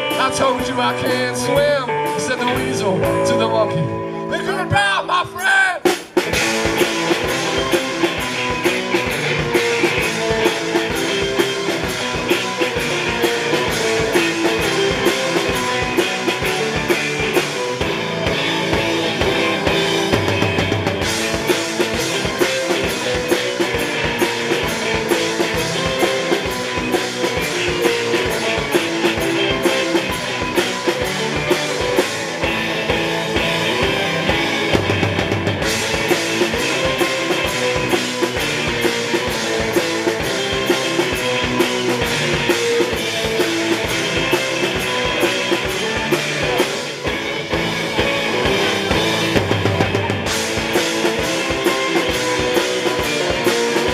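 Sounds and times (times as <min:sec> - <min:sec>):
drum kit beat: 0:00.0 - 0:53.9
electric guitar: 0:00.0 - 0:53.9
rock band playing: 0:00.0 - 0:53.9.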